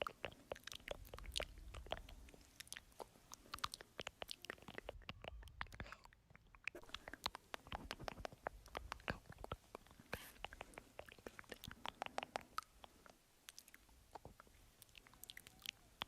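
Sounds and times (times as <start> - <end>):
wet mouth clicks and smacks: 0.0 - 16.0.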